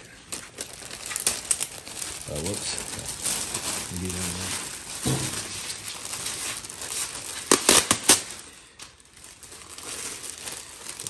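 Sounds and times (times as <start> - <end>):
plastic film crinkling: 0.0 - 11.0
sharp plastic crackles: 0.0 - 11.0.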